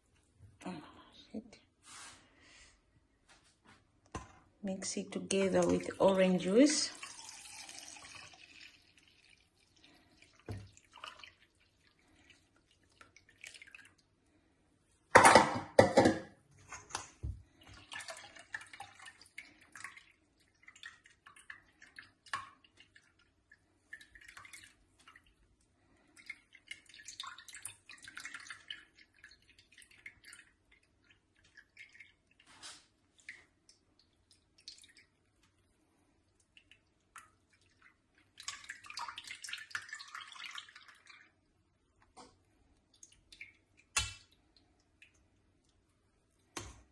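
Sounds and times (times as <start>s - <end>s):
liquid splashing and dripping: 5.1s - 14.5s, 16.9s - 46.9s.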